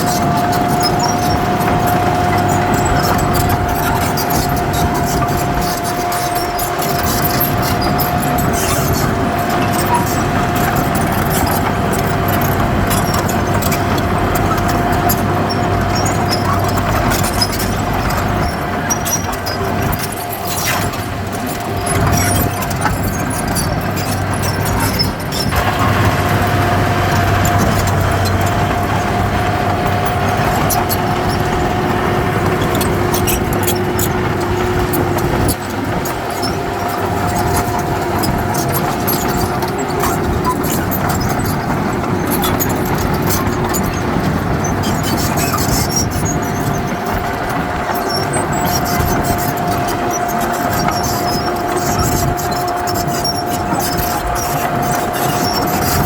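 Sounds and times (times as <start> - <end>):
heavy diesel machinery running: 0.0 - 56.0
light continuous rattle: 0.0 - 56.0.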